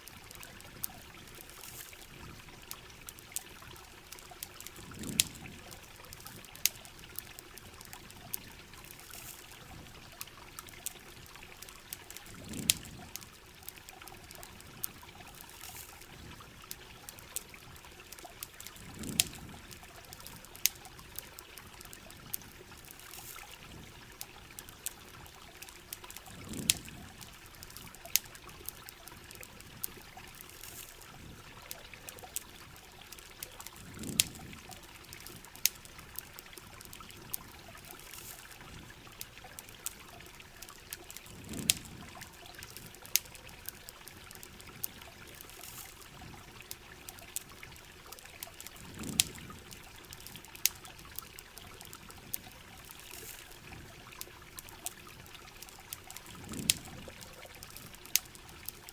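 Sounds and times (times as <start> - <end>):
campfire crackling: 0.0 - 58.9
steady rain hiss: 0.0 - 58.9.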